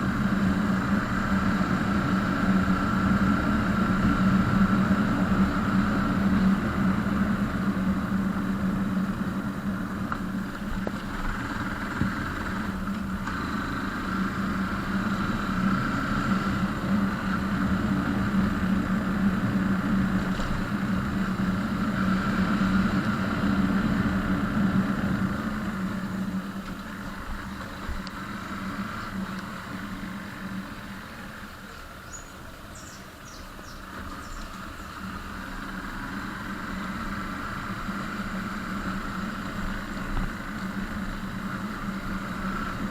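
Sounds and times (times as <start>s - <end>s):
road noise: 0.0s - 42.9s
vehicle engine running: 0.0s - 42.9s.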